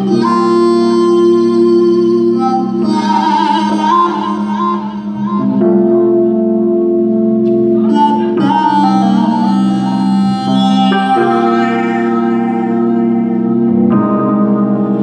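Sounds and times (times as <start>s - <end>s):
live band with held keyboard chords: 0.0s - 15.0s.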